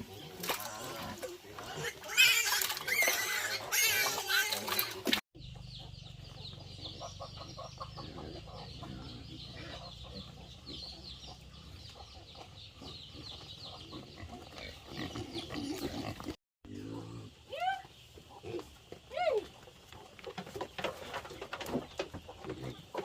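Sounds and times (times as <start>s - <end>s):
chickens clucking: 0.0s - 23.0s
chicks chirping and peeping: 1.5s - 16.4s, 17.8s - 23.0s.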